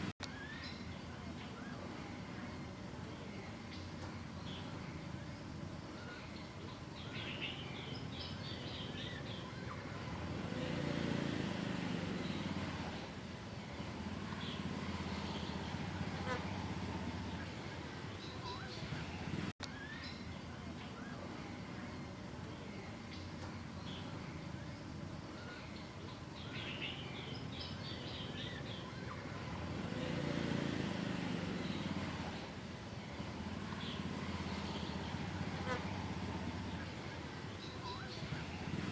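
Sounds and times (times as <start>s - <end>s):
bird chirping: 0.0s - 11.3s, 12.0s - 38.9s.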